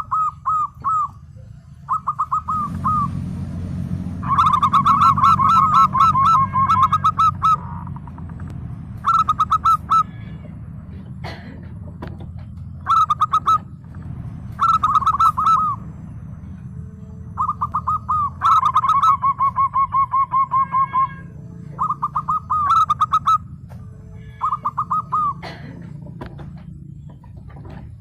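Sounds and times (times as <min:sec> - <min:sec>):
dove cooing: 0:00.0 - 0:03.2, 0:04.2 - 0:11.8, 0:12.7 - 0:15.9, 0:17.3 - 0:28.0
steady low hum: 0:00.0 - 0:28.0.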